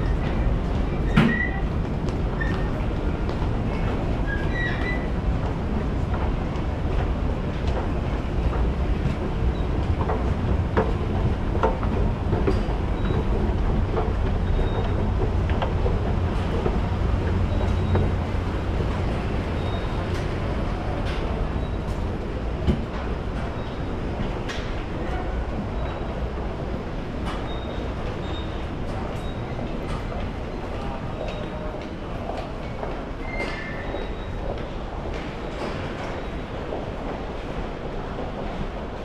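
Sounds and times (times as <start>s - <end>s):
subway station rumble: 0.0s - 39.0s.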